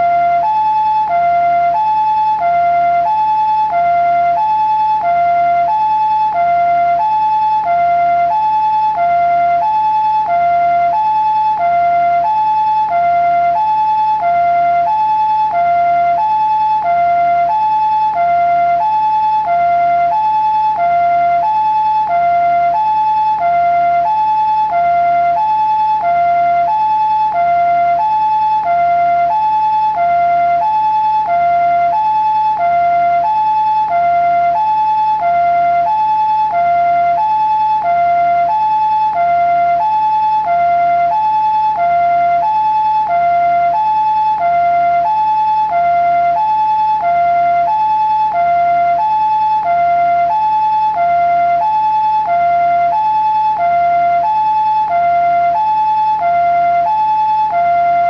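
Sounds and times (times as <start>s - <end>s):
two-tone ambulance siren: 0.0s - 58.0s.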